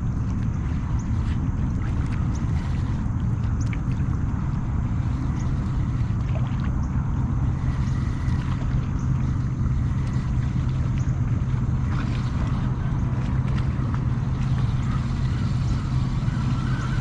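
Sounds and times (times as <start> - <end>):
low rumble of kayak under way: 0.0 - 17.0.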